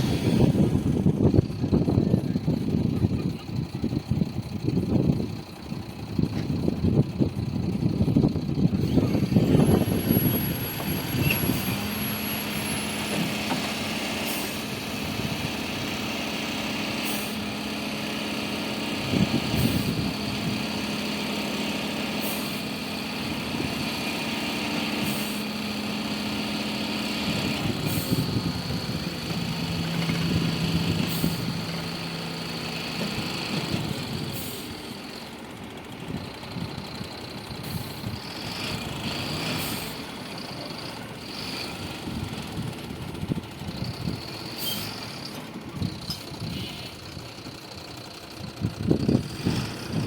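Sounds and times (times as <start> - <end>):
diesel machinery engine running: 0.0 - 50.0.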